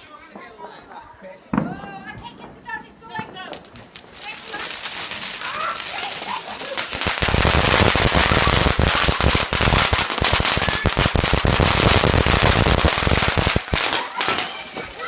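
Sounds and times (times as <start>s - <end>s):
fireworks cracks and bangs: 1.5s - 15.0s.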